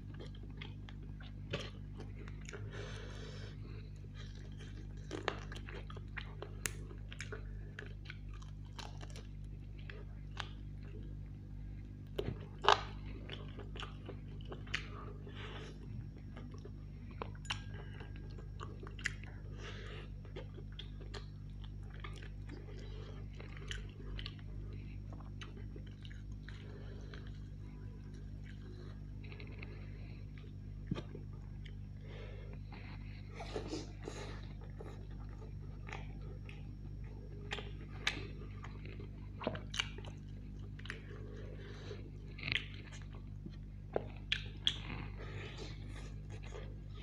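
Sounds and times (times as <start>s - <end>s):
low hum: 0.0s - 47.0s
man chewing food: 0.0s - 47.0s.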